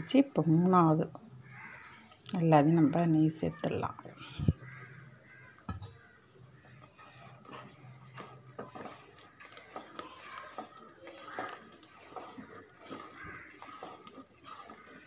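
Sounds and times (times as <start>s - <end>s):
wooden spatula scraping batter: 0.0s - 15.0s.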